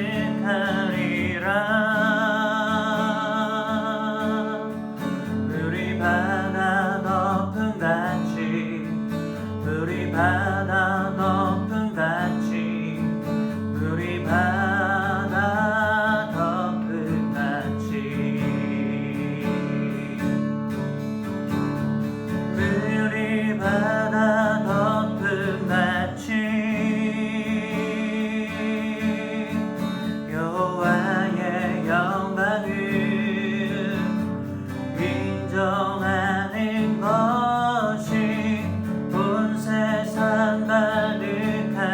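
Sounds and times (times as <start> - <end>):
person singing with vibrato: 0.0 - 20.5, 22.5 - 41.9
strummed acoustic guitar: 0.0 - 41.9.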